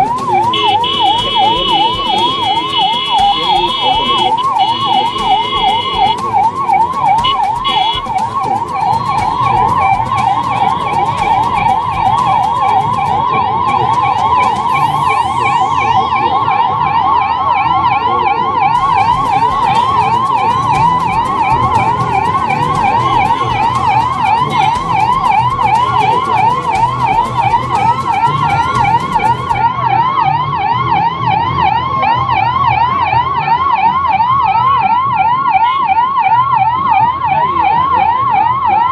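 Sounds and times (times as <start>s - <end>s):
vehicle engines running: 0.0s - 35.4s
ambulance siren yelp: 0.0s - 38.9s.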